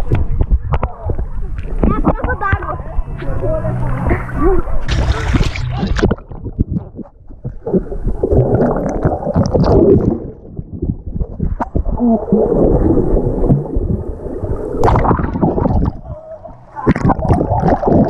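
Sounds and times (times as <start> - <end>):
underwater bubbling and gurgling: 0.0 - 18.0.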